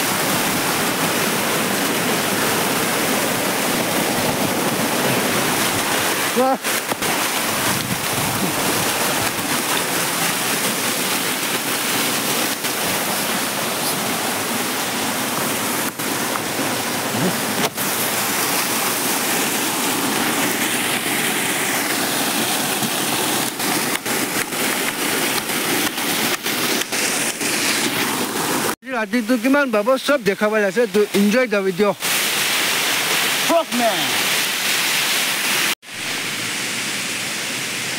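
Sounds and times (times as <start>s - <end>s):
stream flowing over rocks: 0.0s - 28.8s, 29.4s - 37.9s.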